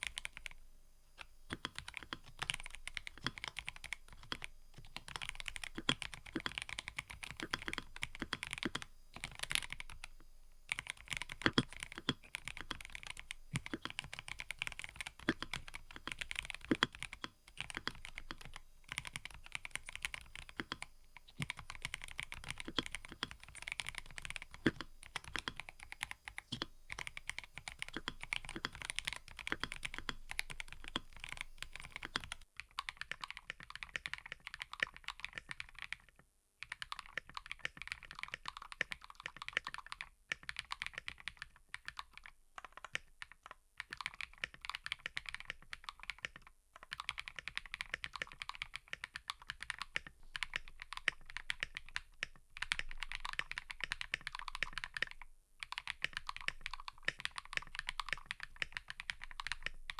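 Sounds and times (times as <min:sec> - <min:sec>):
mechanical keyboard typing: 0:00.0 - 0:00.6, 0:01.2 - 0:59.9.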